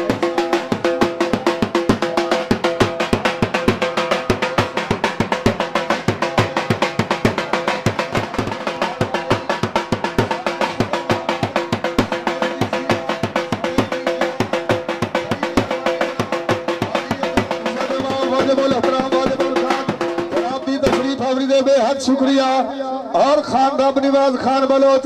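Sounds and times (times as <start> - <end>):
drum beaten in fast rhythm: 0.0 - 25.0.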